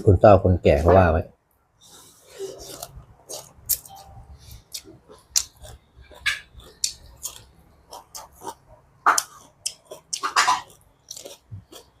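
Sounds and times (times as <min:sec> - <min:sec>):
person chewing and crunching: 0:01.9 - 0:12.0.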